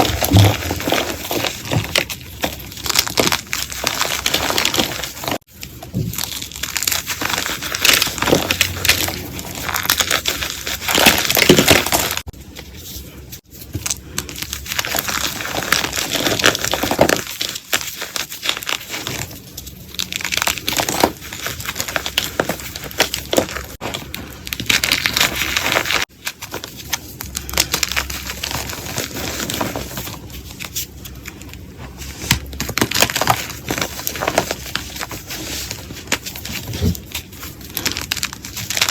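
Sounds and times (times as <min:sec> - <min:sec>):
chalk crunching and crumbling: 0:00.0 - 0:38.9.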